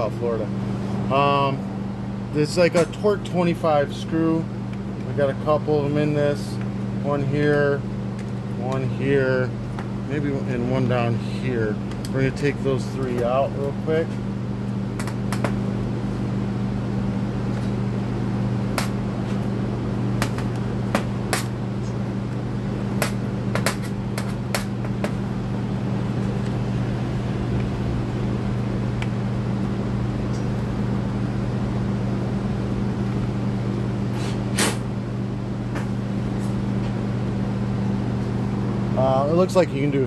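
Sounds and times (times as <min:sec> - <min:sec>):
fans humming: 0:00.0 - 0:40.0.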